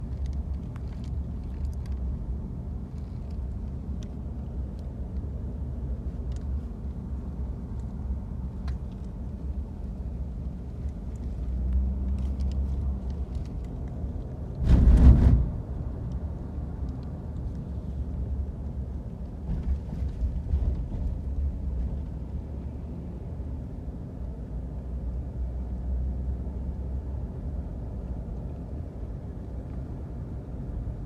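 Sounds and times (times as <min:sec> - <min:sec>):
car interior rumble while driving: 0:00.0 - 0:31.0.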